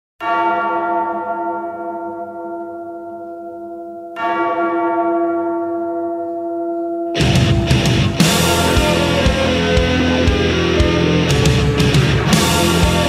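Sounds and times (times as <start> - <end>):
large church bell tolling: 0.2 - 13.0.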